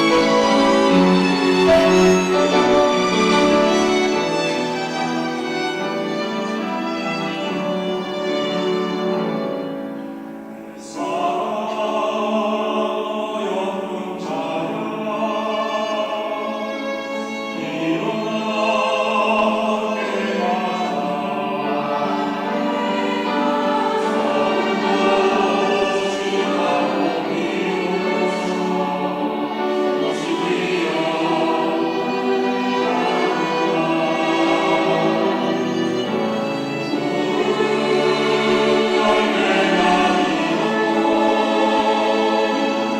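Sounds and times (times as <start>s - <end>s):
church choir singing in harmony: 0.0s - 42.9s.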